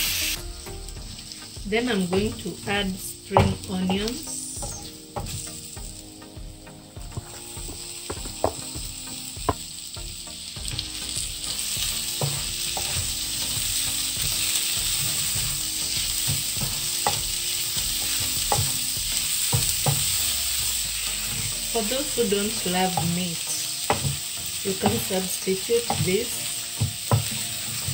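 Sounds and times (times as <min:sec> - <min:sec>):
food sizzling in oil: 0:00.0 - 0:27.9
spatula scraping and knocking pan: 0:02.0 - 0:06.0, 0:07.0 - 0:09.7, 0:11.2 - 0:23.2, 0:23.8 - 0:27.9.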